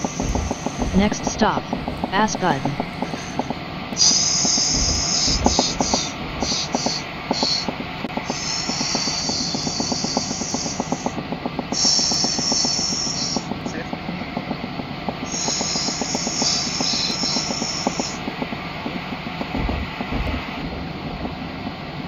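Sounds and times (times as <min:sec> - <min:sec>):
train rumble inside carriage: 0:00.0 - 0:22.0
wheels clattering over rails: 0:00.0 - 0:22.0.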